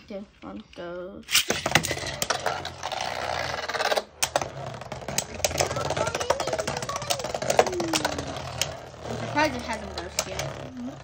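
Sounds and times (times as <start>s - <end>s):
spinning tops whirring: 1.3s - 11.0s.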